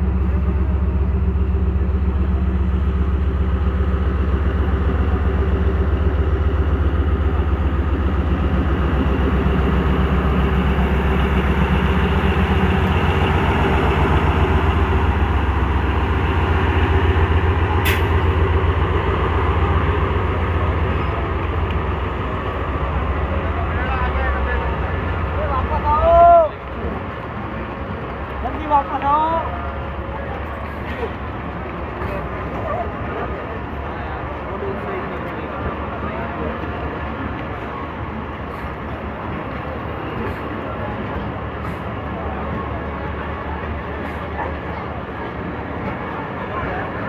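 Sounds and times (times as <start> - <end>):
locomotive engine droning: 0.0 - 47.0
train wheels rolling: 0.0 - 47.0.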